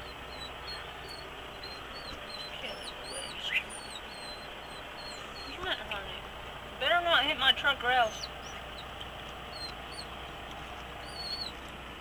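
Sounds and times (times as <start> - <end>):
bird chirping: 0.0 - 6.5, 7.2 - 11.7
background hum: 0.0 - 12.0.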